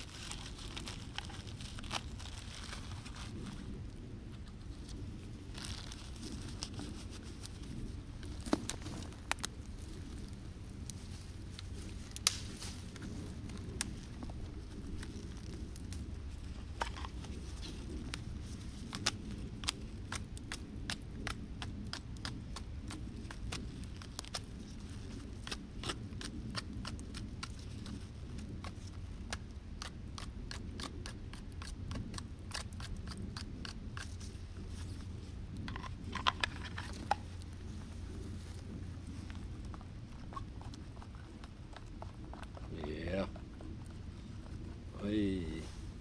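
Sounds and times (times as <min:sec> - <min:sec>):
campfire crackling and popping: 0:00.0 - 0:46.0
low steady rumble: 0:00.0 - 0:46.0.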